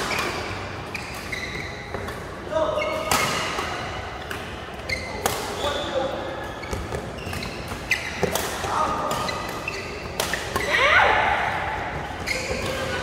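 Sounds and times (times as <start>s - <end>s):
shoes squeaking on court: 0.0s - 3.5s, 4.1s - 10.7s, 12.0s - 13.0s
badminton rackets hitting shuttlecock: 0.0s - 4.6s, 5.2s - 5.8s, 6.6s - 13.0s.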